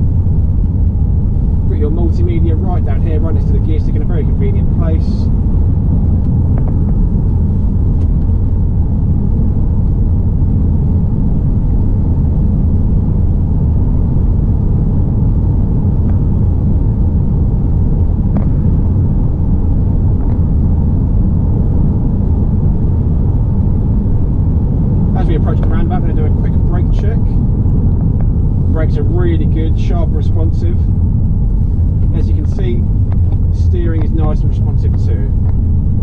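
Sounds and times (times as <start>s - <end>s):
road noise: 0.0s - 36.0s
van engine rumble: 0.0s - 36.0s.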